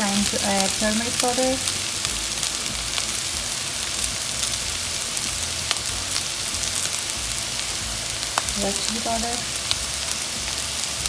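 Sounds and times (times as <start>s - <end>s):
oil sizzling in a pan: 0.0s - 11.0s
small crackles: 0.0s - 11.0s.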